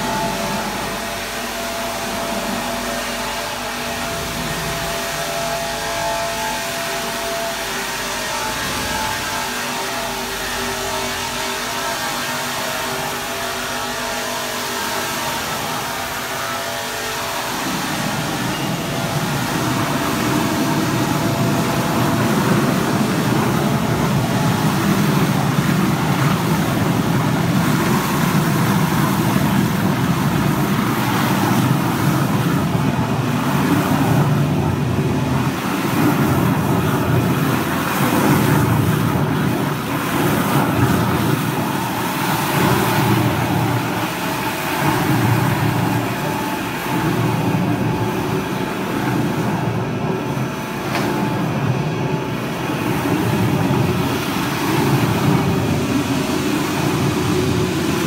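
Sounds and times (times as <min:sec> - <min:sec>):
mixer churning liquid: 0:00.0 - 0:58.0.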